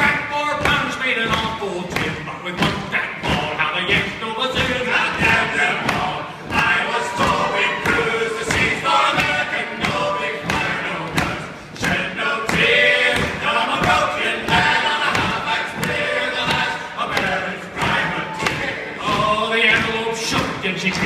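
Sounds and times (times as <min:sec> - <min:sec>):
regular thudding beat: 0:00.0 - 0:21.0
men singing in chorus: 0:02.9 - 0:21.0.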